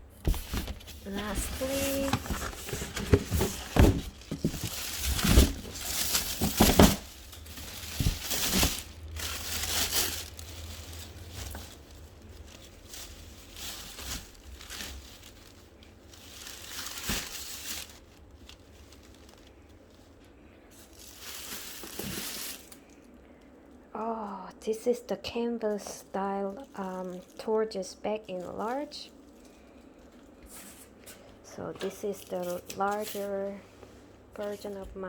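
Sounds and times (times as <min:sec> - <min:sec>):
packaging crumpling and crinkling: 0:00.2 - 0:23.5, 0:25.8 - 0:31.2, 0:31.9 - 0:33.5.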